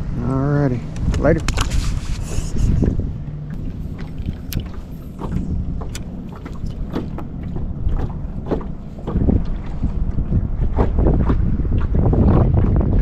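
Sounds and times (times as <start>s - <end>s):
steady low rumble: 0.0s - 13.0s
waves slapping boat hull: 0.0s - 13.0s
wind buffeting microphone: 0.0s - 13.0s.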